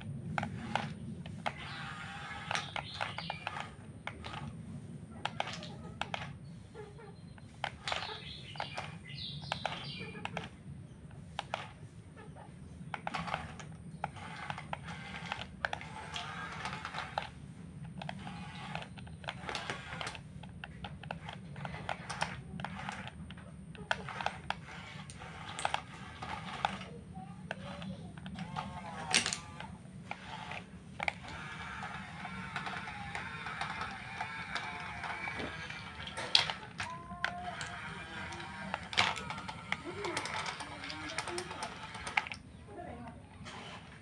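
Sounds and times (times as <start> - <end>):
gears clicking and rattling: 0.0 - 11.9, 12.8 - 44.0
small electric motors humming: 0.0 - 12.0, 12.8 - 44.0.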